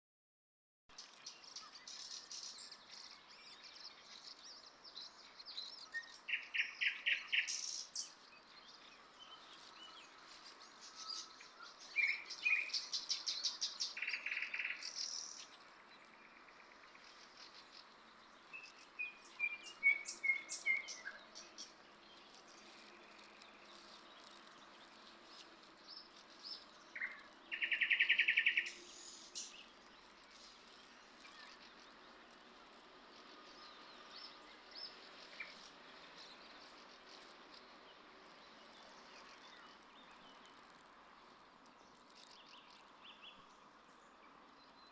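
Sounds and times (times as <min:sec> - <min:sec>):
songbirds trilling and chirping: 0:00.9 - 0:44.9.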